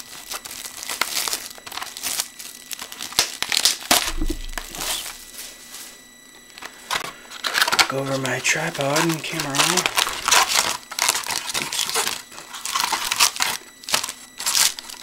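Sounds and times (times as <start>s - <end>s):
computer fan whine: 0.0s - 15.0s
plastic wrapping crinkling and tearing: 0.0s - 15.0s.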